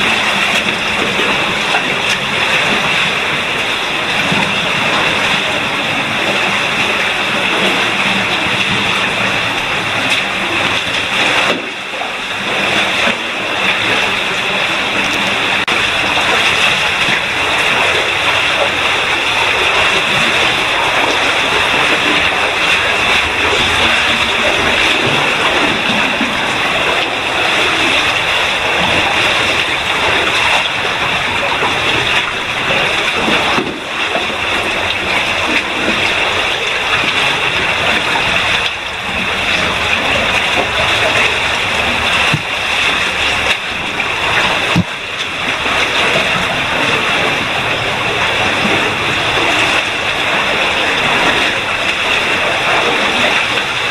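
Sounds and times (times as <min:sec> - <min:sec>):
falling water rushing: 0:00.0 - 0:53.9.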